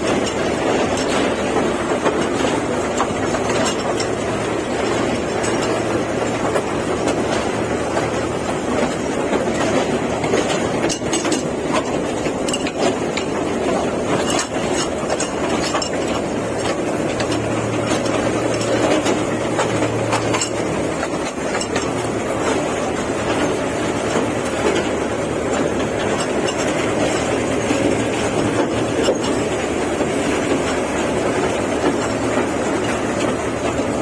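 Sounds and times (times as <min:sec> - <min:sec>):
toy train rumbling on track: 0:00.0 - 0:34.0.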